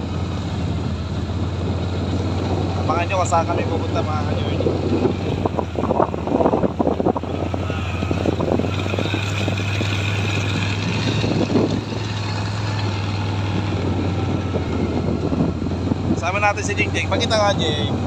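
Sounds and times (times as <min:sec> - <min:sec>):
vehicle engine humming: 0:00.0 - 0:18.0
vehicle rattles and knocks: 0:00.0 - 0:18.0.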